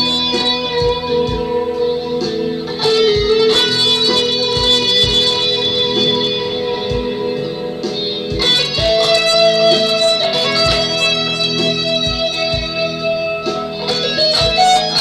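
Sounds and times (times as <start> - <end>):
electric guitar lead line: 0.0 - 15.0
low thumps: 2.3 - 15.0.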